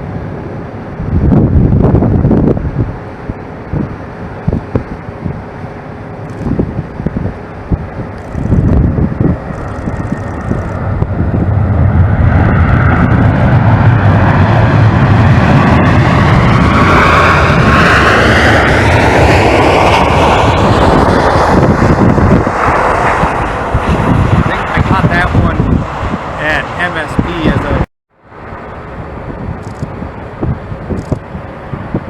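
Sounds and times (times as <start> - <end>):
jet airliner passing: 0.0 - 32.0.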